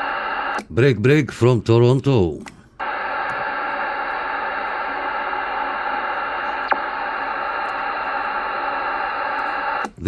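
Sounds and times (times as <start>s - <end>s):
radio static hiss: 0.0s - 2.0s, 2.8s - 10.0s.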